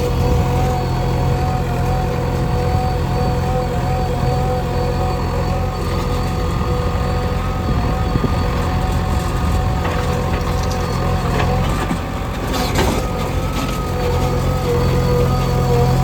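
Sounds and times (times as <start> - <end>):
diesel engine running with whine: 0.0 - 16.0
soil and stones crunching: 0.0 - 16.0.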